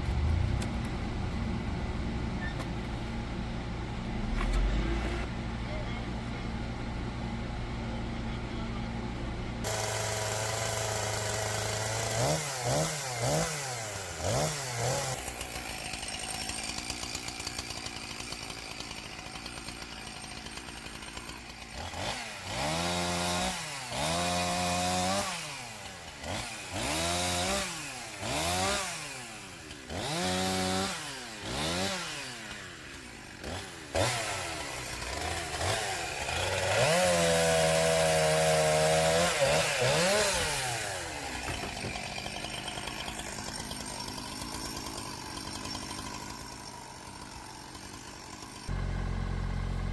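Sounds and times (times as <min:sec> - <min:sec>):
chainsaw engine revving: 0:09.6 - 0:49.9.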